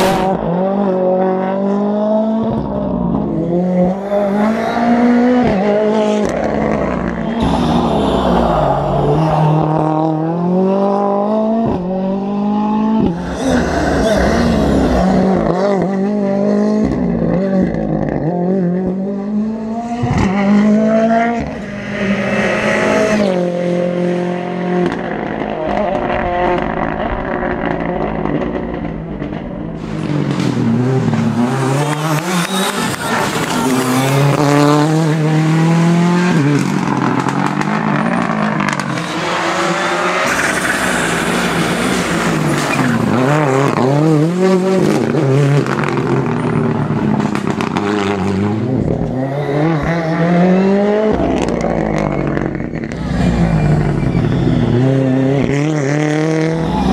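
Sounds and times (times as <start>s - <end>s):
rally car engines accelerating: 0.0s - 56.9s.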